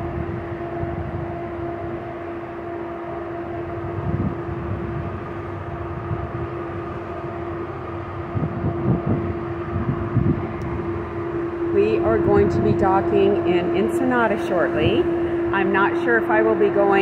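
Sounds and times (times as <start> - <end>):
ship machinery hum: 0.0 - 17.0
wind rumble on microphone: 0.0 - 17.0.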